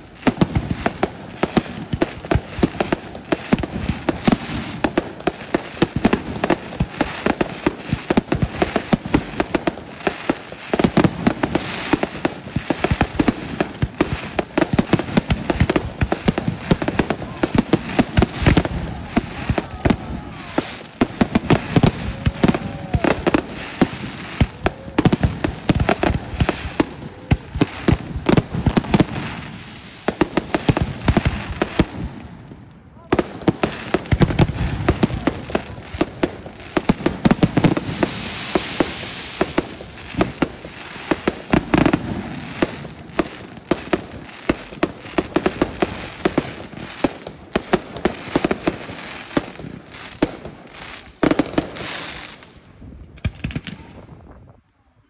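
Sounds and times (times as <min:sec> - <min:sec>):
fireworks bangs and crackle: 0:00.0 - 0:54.6.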